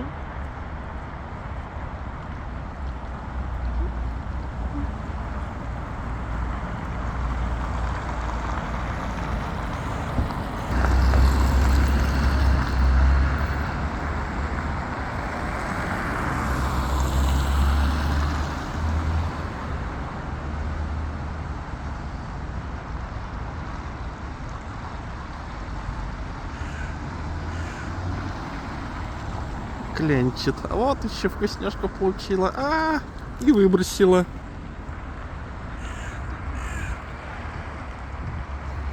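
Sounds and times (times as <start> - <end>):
traffic noise: 0.0 - 38.9
vehicles passing: 0.0 - 38.9.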